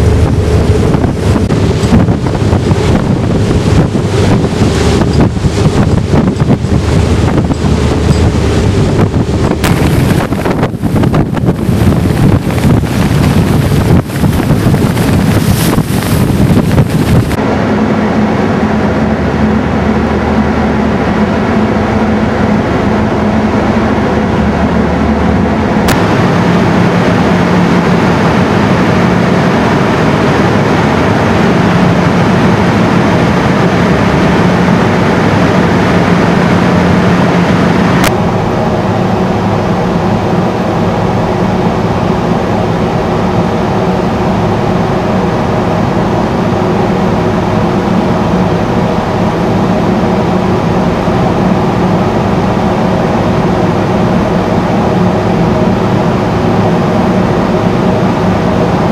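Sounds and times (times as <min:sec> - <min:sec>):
ship engines droning: 0:00.0 - 0:58.9
wind buffeting microphone: 0:00.0 - 0:58.9.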